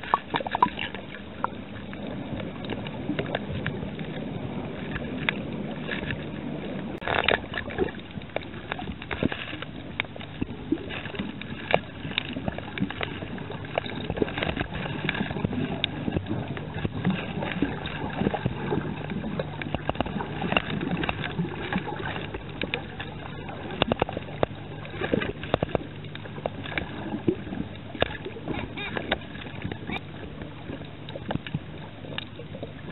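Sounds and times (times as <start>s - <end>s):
sharp clicks and crackles: 0.0s - 32.7s
boat engine hum: 0.0s - 32.9s.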